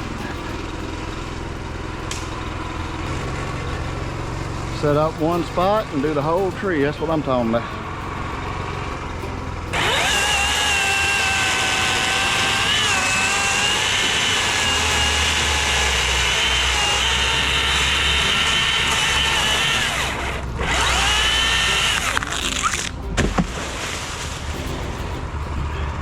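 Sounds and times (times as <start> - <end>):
chainsaw whining: 0.0 - 24.6.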